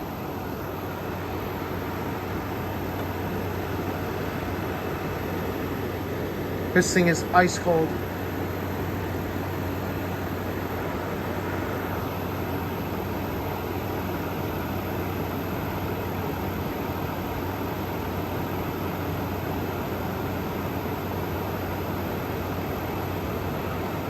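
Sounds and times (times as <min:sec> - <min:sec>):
air conditioner fan rushing air: 0:00.0 - 0:24.0.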